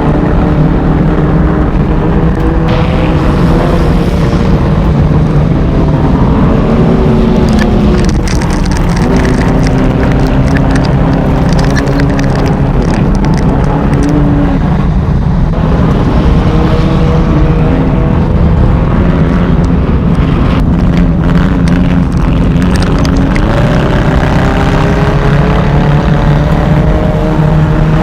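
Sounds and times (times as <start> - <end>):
race car engine accelerating: 0.0 - 28.0.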